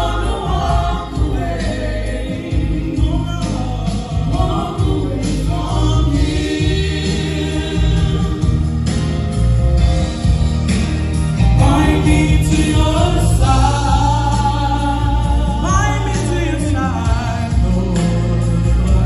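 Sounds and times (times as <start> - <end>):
deep steady bass: 0.0 - 19.0.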